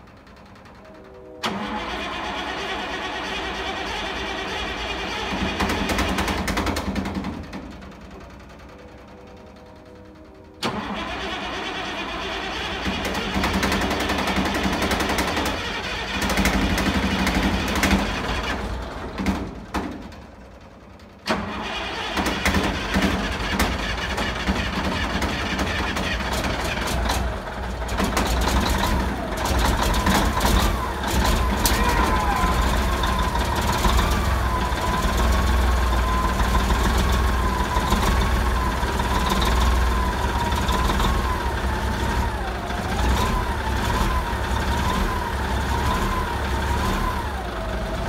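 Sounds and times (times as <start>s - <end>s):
diesel engine starting and running: 0.0s - 48.0s.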